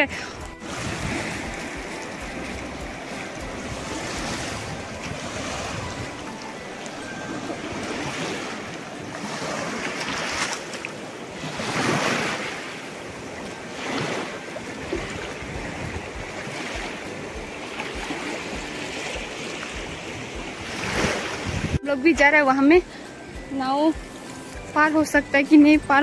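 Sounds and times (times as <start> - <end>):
wind on microphone: 0.0 - 10.7, 11.3 - 21.8
fast-flowing river rushing: 0.0 - 21.9
small waves washing on stones: 0.6 - 21.8.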